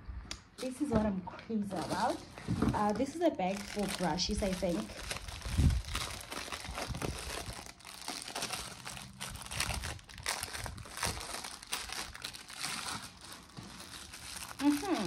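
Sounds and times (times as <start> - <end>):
plastic wrapping crinkling: 1.6 - 15.0.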